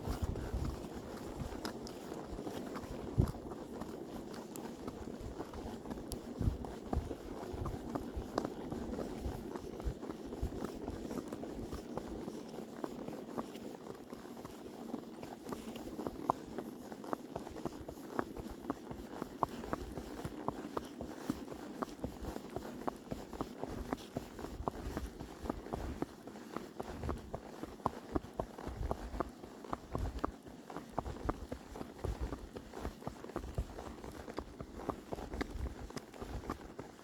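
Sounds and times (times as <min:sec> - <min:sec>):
horse hoofbeats walking: 0:00.0 - 0:37.0.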